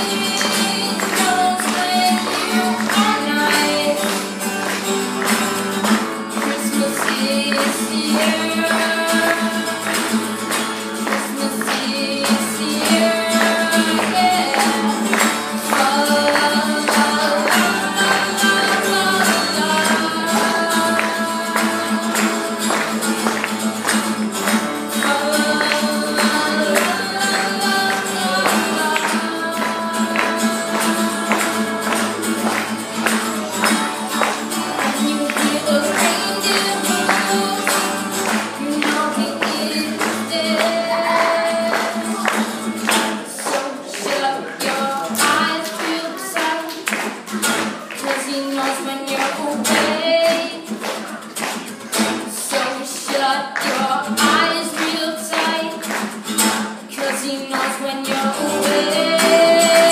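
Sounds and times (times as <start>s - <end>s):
boy singing: 0.0s - 4.5s, 6.3s - 23.0s, 24.9s - 32.7s, 33.4s - 47.2s, 47.8s - 51.2s, 51.8s - 55.9s, 56.9s - 59.9s
strummed acoustic guitar: 0.0s - 59.9s.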